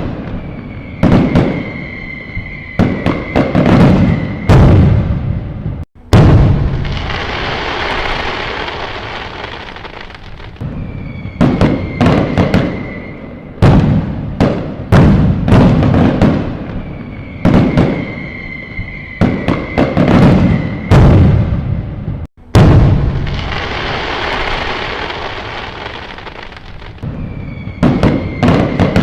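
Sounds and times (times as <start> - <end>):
whistling firework shell: 0.0 - 5.4, 6.1 - 21.8, 22.6 - 29.0
fireworks bangs and booms: 0.0 - 29.0
fireworks crackling: 0.0 - 29.0.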